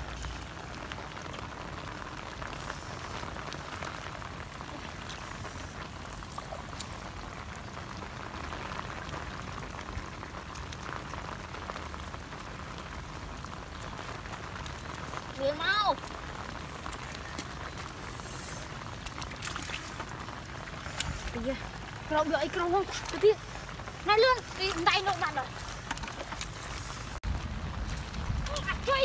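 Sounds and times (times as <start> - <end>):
rain falling on floodwater: 0.0 - 29.0.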